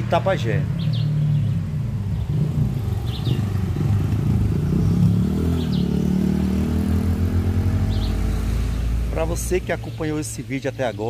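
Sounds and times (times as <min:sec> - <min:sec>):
cars driving past: 0:00.0 - 0:11.0
bird chirping: 0:00.2 - 0:11.0.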